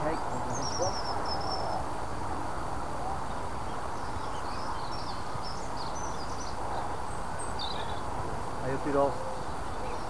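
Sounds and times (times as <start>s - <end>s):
outdoor background noise: 0.0s - 10.0s
songbirds chirping: 0.0s - 10.0s.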